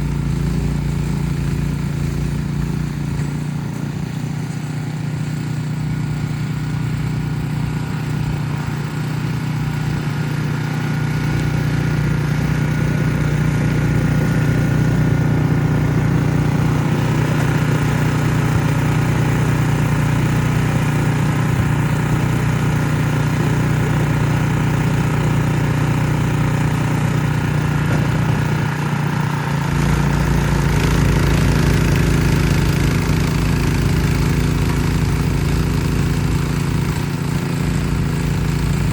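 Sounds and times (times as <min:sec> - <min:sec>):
snow blower running: 0:00.0 - 0:38.9.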